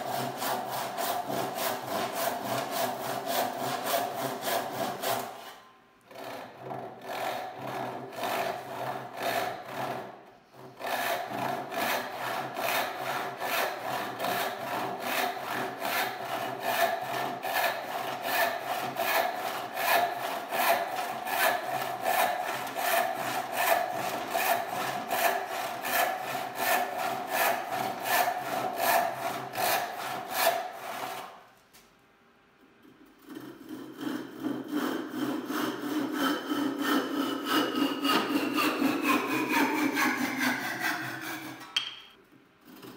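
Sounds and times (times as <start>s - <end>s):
hand saw cutting wood: 0.0s - 31.5s, 32.9s - 42.0s, 42.6s - 42.9s.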